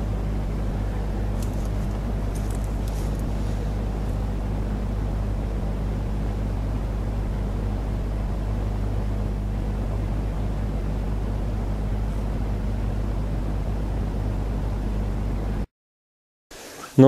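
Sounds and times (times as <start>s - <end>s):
low droning hum: 0.0s - 15.7s.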